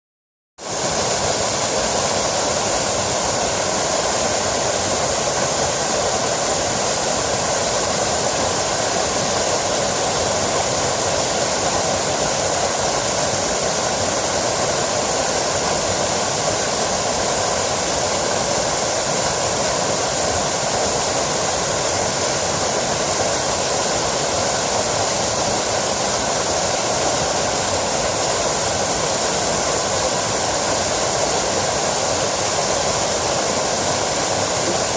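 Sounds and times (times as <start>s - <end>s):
stream over small waterfall: 0.6s - 34.9s.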